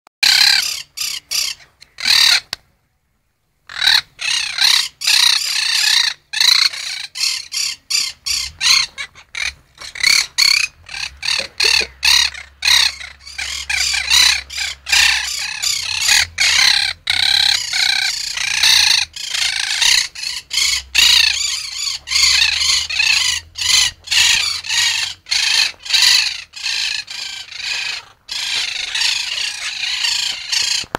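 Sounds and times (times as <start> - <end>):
birds screeching: 0.2 - 2.6, 3.7 - 30.9.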